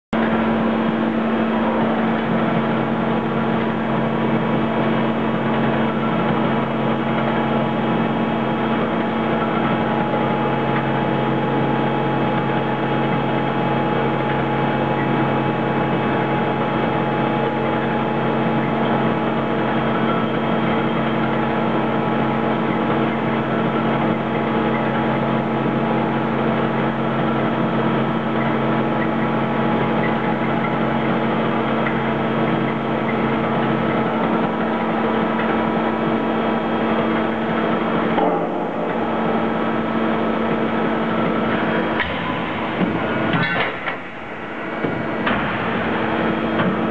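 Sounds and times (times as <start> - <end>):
motor humming steadily: 0.2 - 46.9.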